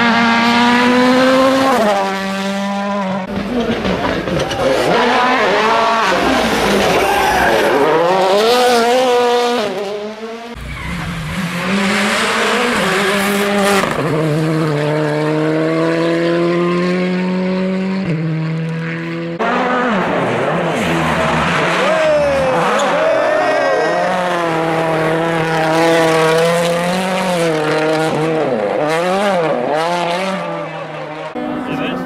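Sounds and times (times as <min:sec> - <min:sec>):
rally car engines at full throttle: 0:00.0 - 0:32.0.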